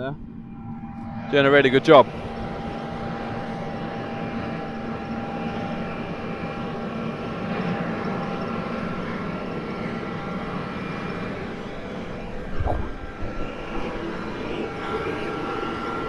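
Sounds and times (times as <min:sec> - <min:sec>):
combine harvester drone: 0:00.0 - 0:16.0
thin whining tones: 0:00.0 - 0:16.0.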